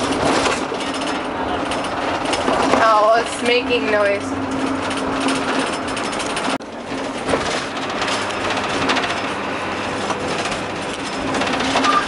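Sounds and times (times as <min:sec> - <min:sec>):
metal cabinets rattling: 0:00.0 - 0:12.0.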